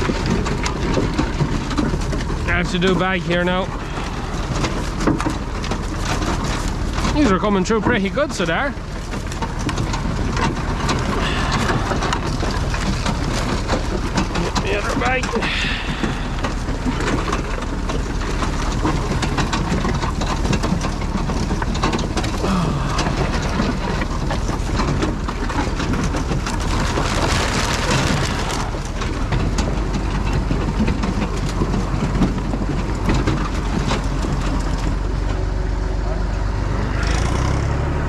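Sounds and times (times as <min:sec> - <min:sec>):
harvester rattling clatter: 0:00.0 - 0:38.0
tractor engine running: 0:00.0 - 0:38.0.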